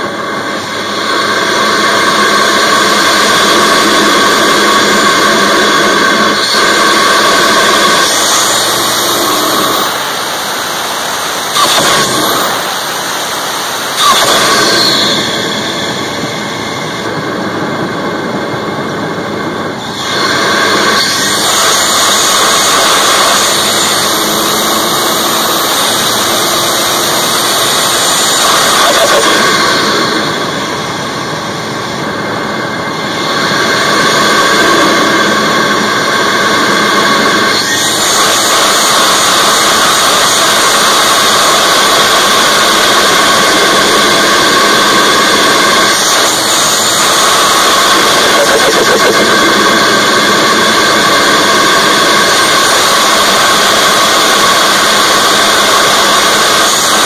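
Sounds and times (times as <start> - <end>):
engine intake air rushing: 0.0 - 57.0.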